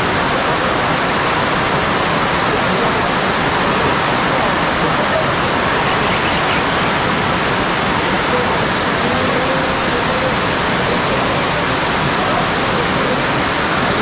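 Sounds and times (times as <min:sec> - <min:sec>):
heavy rain on pond water: 0:00.0 - 0:06.0, 0:06.9 - 0:14.0.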